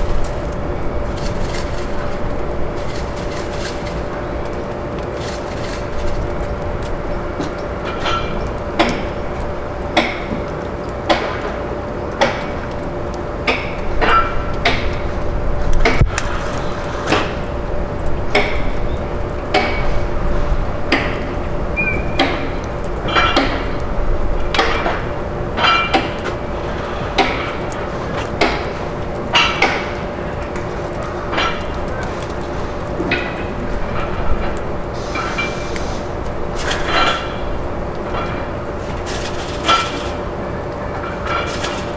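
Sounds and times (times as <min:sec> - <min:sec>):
steady hum: 0:00.0 - 0:41.9.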